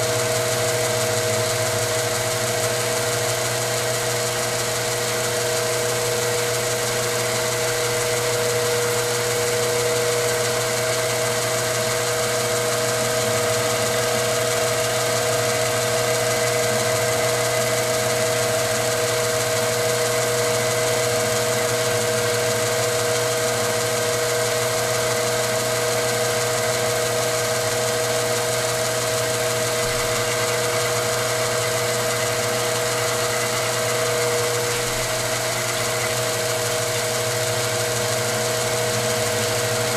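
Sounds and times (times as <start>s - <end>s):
milling machine hum and whine: 0.0s - 39.9s.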